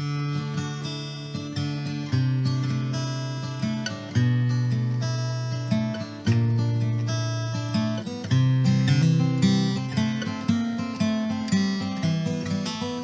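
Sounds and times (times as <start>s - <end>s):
strummed acoustic guitar chords: 0.0s - 13.0s.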